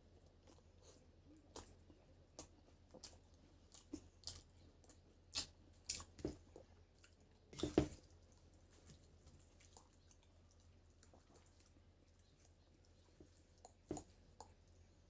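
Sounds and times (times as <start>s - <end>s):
chewing and wet mouth sounds: 0.0s - 15.0s.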